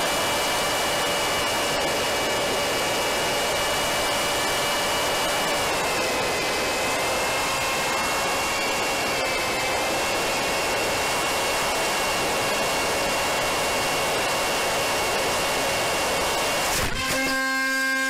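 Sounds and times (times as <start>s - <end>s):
rush of air: 0.0s - 16.8s
electric propeller motor whining: 0.0s - 18.0s.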